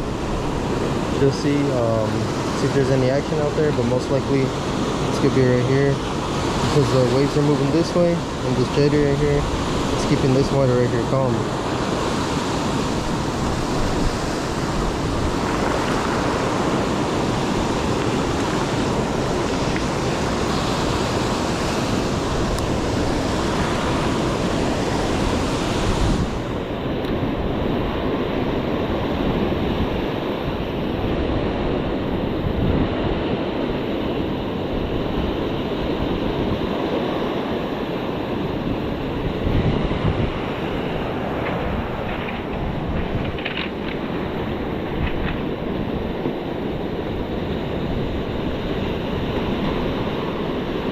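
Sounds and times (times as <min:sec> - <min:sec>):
ocean surf breaking: 0:00.0 - 0:50.9
wind on microphone: 0:00.0 - 0:50.9.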